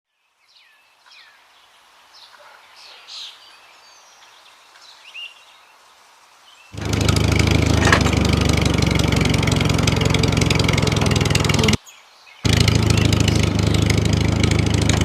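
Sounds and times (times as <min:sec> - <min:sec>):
birds chirping faintly: 0:00.1 - 0:15.0.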